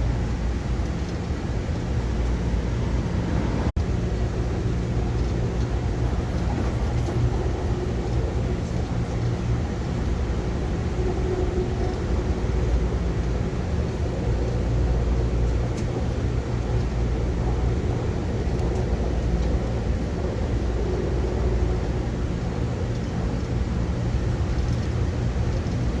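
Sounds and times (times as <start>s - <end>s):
moving vehicle rumble: 0.0s - 26.0s.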